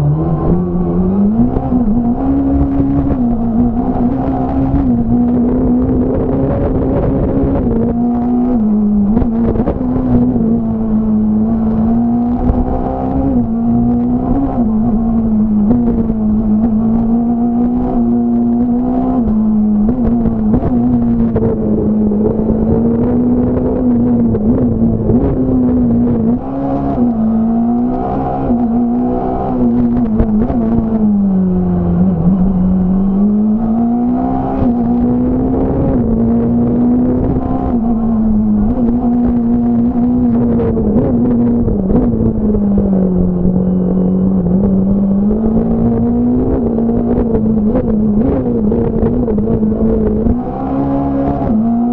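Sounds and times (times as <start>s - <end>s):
rally car engine at high revs: 0.0s - 51.9s.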